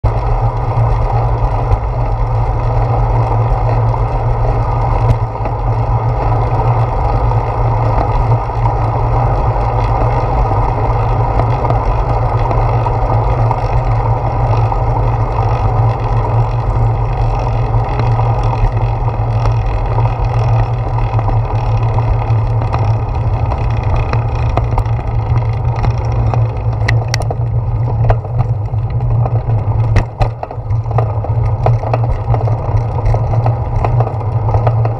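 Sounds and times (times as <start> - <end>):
bike clicks and rattles: 0.0 - 34.9
deep low rumble: 0.0 - 34.9
road noise: 0.0 - 34.9.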